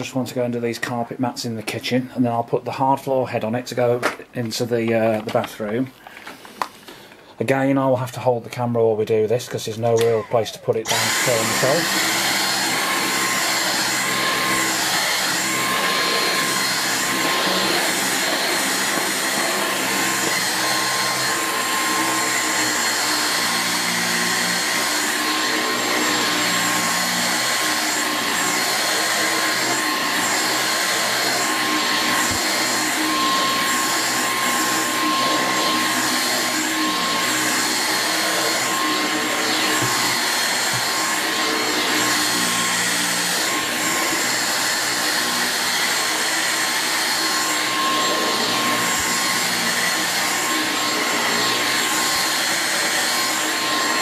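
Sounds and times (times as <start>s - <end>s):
vacuum cleaner running: 9.8s - 54.0s.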